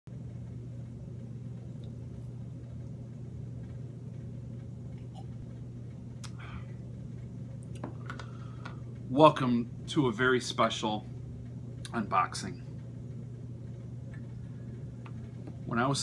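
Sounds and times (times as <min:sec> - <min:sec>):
low electrical hum: 0:00.1 - 0:16.0.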